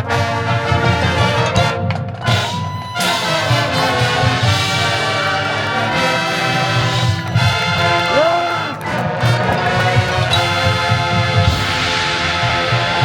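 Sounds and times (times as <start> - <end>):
marching band brass playing: 0.0 - 13.0.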